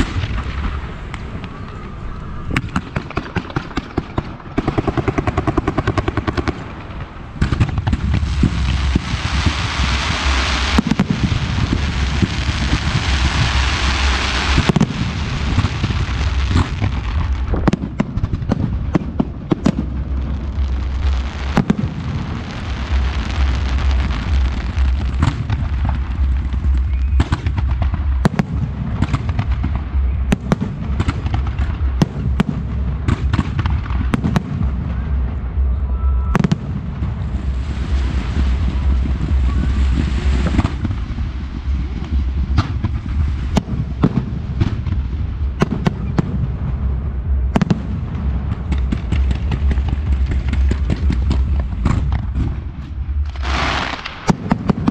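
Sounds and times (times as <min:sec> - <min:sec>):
fireworks crackling and hissing: 0:00.0 - 0:54.9
steady low rumble: 0:00.0 - 0:54.9.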